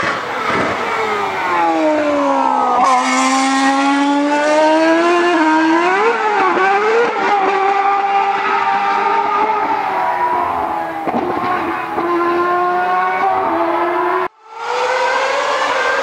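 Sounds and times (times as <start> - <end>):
racing car engine: 0.0 - 16.0.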